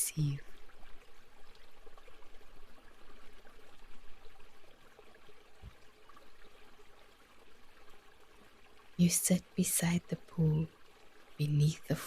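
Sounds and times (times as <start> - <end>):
flowing trickling water: 0.0 - 12.0.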